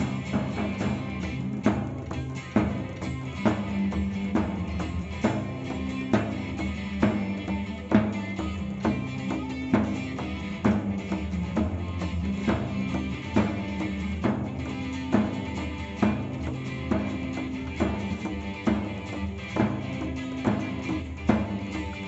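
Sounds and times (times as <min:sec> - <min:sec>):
drum kit beat: 0:00.0 - 0:22.0
folk band playing: 0:00.0 - 0:22.0.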